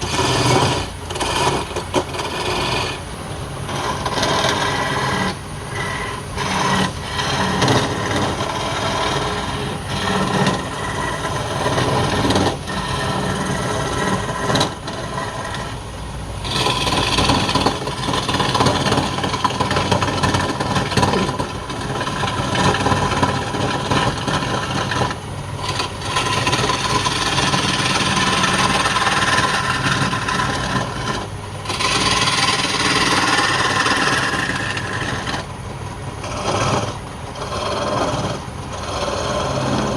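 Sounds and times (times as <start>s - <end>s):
tool scraping spinning wood: 0.0s - 39.9s.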